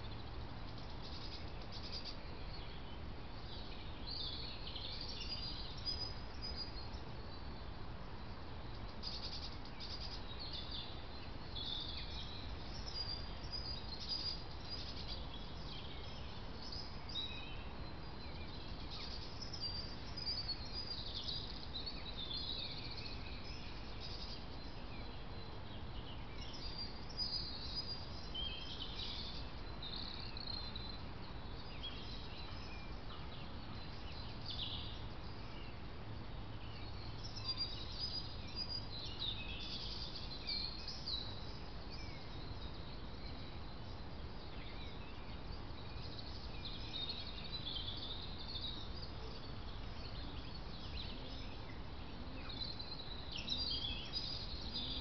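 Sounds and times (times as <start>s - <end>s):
low background hiss: 0.0s - 55.0s
songbirds chirping: 0.0s - 55.0s.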